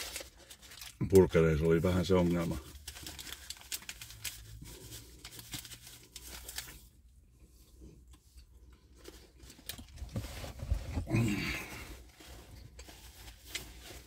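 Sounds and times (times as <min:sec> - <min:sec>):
paper wrapper crinkling: 0:00.0 - 0:07.0, 0:08.9 - 0:14.0.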